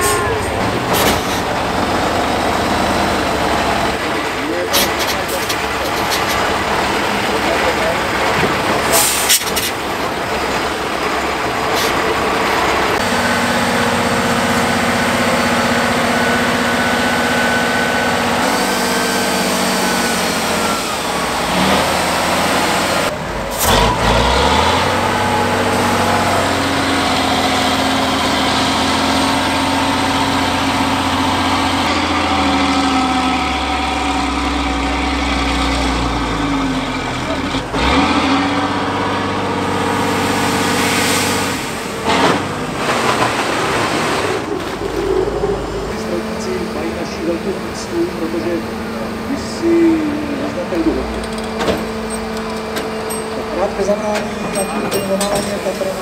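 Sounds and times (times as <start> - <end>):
truck diesel engines under load: 0.0 - 56.0.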